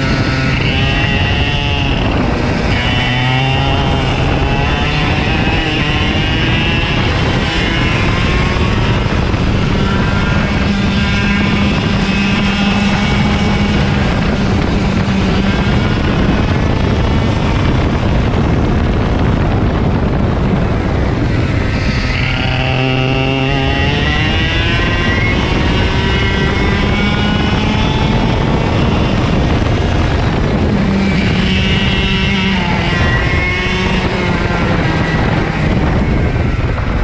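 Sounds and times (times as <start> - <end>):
kart engine revving: 0.0 - 37.0.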